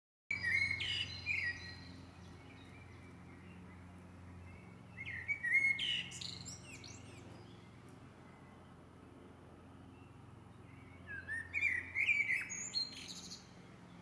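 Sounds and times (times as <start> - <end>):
songbird singing: 0.3 - 14.0.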